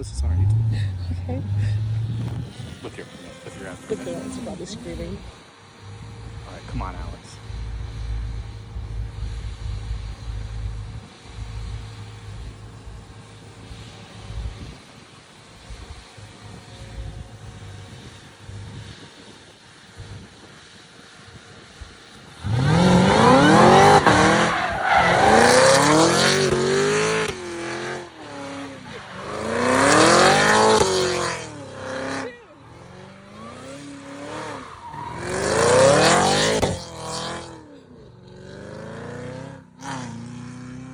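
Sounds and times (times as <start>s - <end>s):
car engine revving hard: 0.0s - 14.8s, 22.3s - 40.9s.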